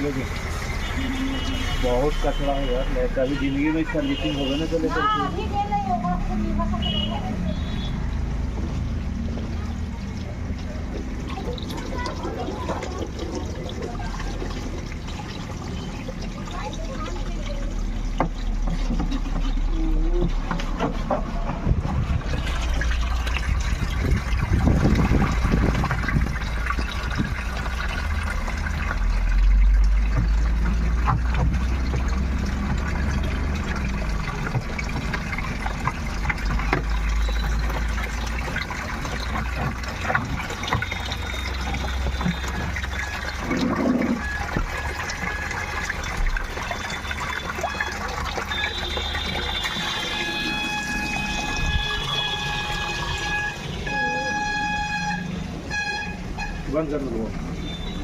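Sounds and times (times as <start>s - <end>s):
washing machine hum: 0.0s - 58.0s
water running and splashing: 0.0s - 58.0s.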